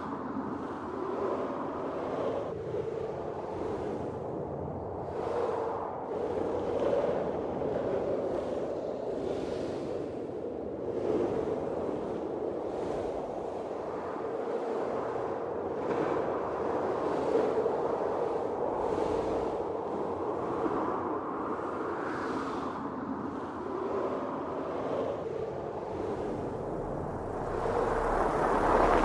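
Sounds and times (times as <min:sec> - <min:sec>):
blizzard wind gusting: 0:00.0 - 0:29.0.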